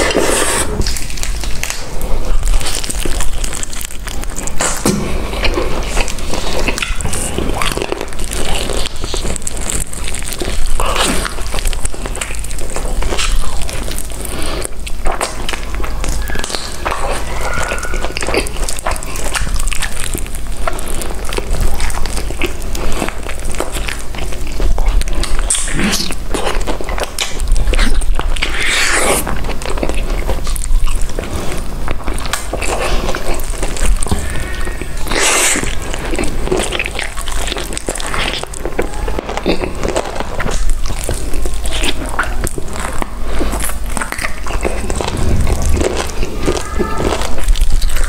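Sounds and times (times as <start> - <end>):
crisp biting and chewing: 0.0 - 48.0
wet mouth sounds: 0.0 - 48.0.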